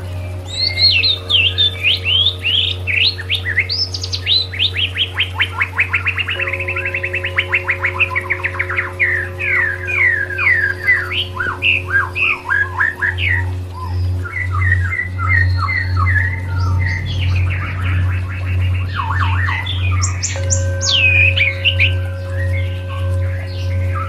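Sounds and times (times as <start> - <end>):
bird song with trills and whistles: 0.0 - 24.0
low hum: 0.0 - 24.0.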